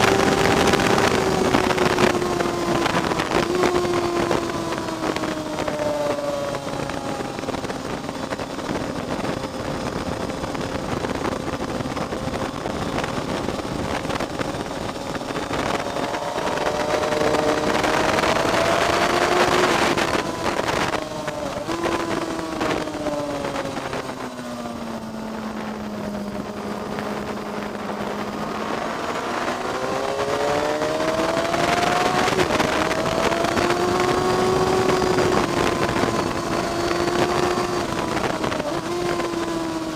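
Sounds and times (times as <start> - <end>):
car engine accelerating: 0.0 - 39.9
wind noise: 0.0 - 39.9.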